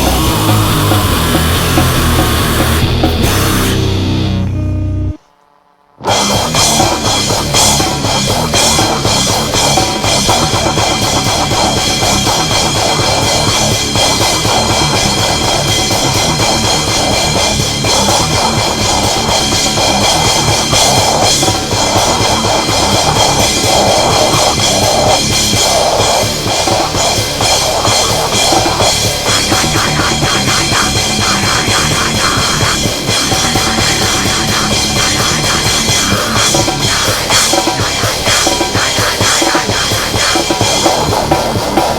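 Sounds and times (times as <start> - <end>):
drum kit: 0.0 - 5.4, 6.0 - 41.9
distorted extreme metal music: 0.0 - 41.9.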